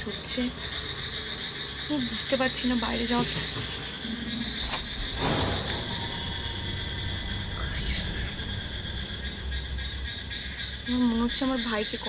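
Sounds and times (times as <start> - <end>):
crickets trilling: 0.0 - 12.0
pulsing high insect chirp: 0.0 - 12.0.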